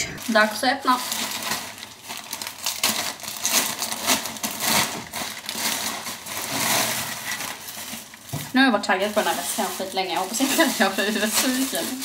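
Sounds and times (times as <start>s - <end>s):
plastic bag ripping: 0.2s - 12.0s
plastic crinkling and rustling: 0.2s - 12.0s.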